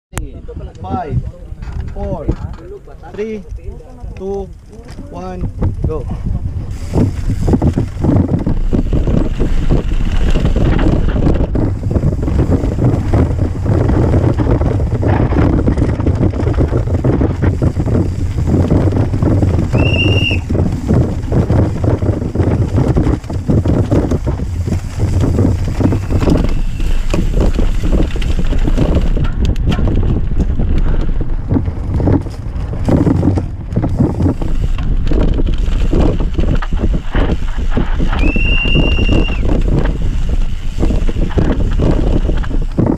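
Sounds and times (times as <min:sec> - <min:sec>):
wind buffeting microphone: 0:00.1 - 0:42.9
bike rattling on dirt trail: 0:00.2 - 0:42.9.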